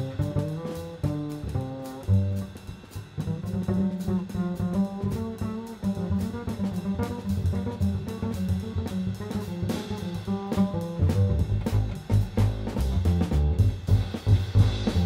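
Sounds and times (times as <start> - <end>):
drum kit cymbals: 0.0 - 15.0
plucked double bass: 0.0 - 15.0.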